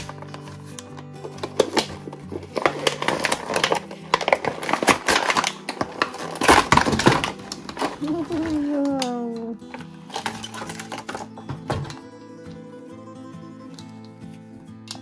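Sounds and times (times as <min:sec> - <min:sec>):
plastic and cardboard packaging crackling: 0:00.0 - 0:12.6
background music: 0:00.0 - 0:15.0.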